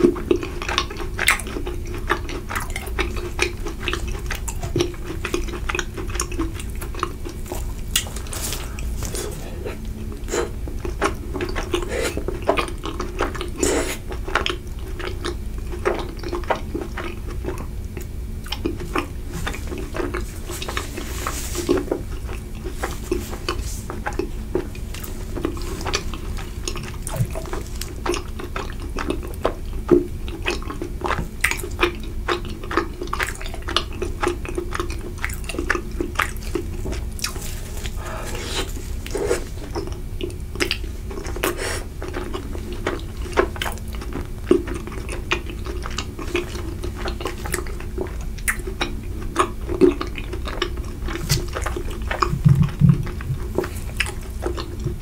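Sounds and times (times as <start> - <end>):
steady low hum: 0.0 - 55.0
wet chewing and mouth sounds: 0.0 - 55.0.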